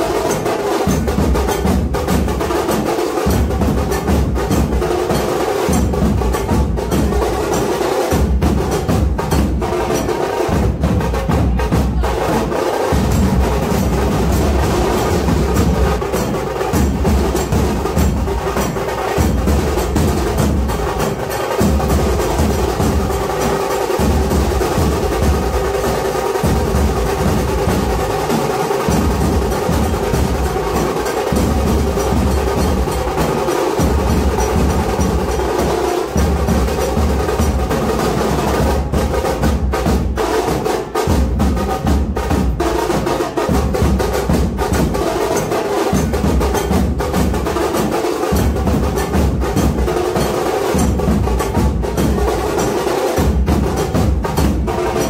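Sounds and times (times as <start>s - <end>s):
clattering high percussion: 0.0s - 55.0s
deep drumbeats: 0.0s - 55.0s.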